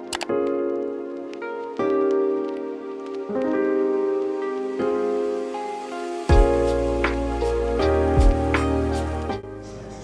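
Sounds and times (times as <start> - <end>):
slow sustained chords music: 0.0 - 10.0.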